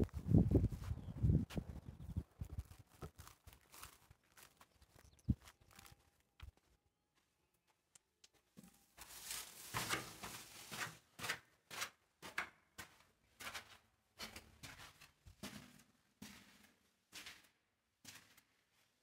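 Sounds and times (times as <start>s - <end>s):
footsteps crunching on gritty concrete: 2.4s - 18.5s.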